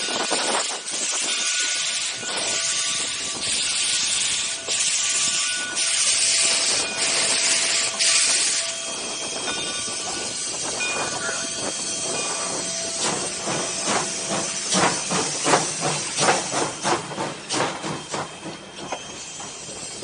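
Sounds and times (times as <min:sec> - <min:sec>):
steam locomotive hissing: 0:00.0 - 0:20.0
locomotive exhaust chuffs: 0:00.1 - 0:20.0.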